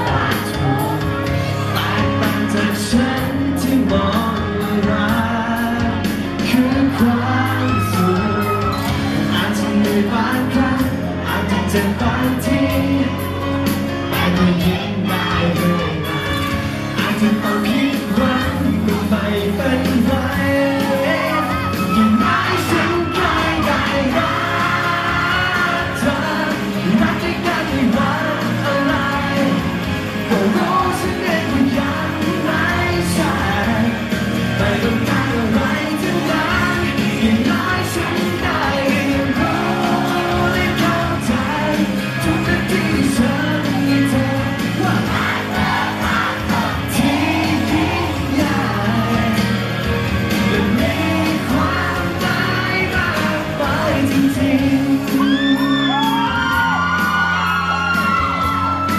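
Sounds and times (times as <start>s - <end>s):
man singing into microphone: 0.0s - 58.8s
amplified backing music: 0.0s - 58.9s.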